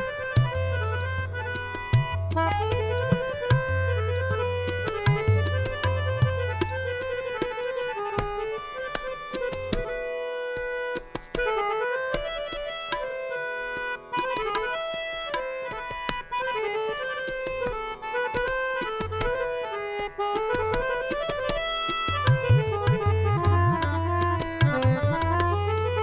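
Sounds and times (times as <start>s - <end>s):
reed instrument melody: 0.0s - 26.0s
tabla strokes: 0.0s - 26.0s.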